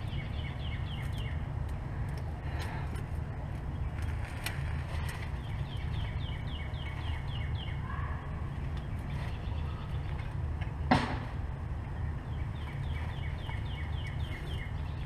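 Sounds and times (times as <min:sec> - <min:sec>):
bird chirping: 0:00.0 - 0:01.5, 0:03.6 - 0:11.0, 0:11.8 - 0:15.0.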